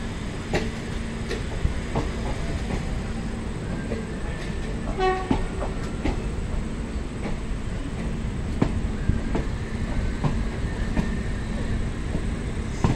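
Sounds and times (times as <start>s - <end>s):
railway wagons rumbling past: 0.0s - 12.9s.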